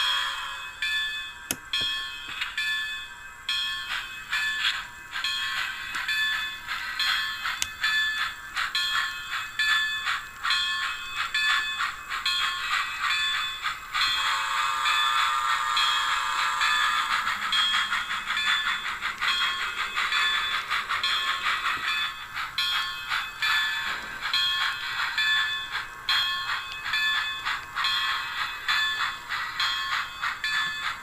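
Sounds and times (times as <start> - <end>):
model train clicking: 0.0 - 31.0.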